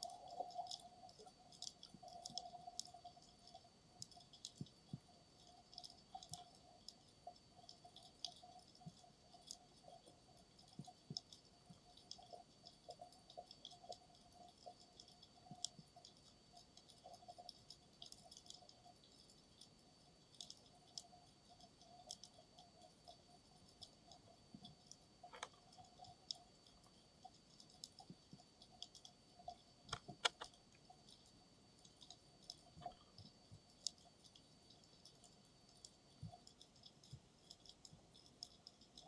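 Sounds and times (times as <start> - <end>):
faint underwater clicks: 0.0 - 39.0.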